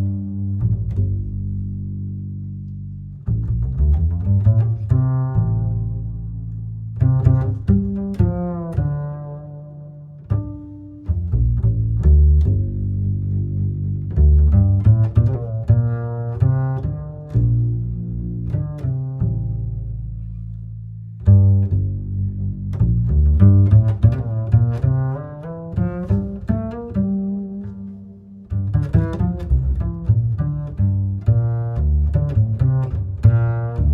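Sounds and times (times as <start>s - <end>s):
deep plucked instrumental music: 0.0s - 33.9s.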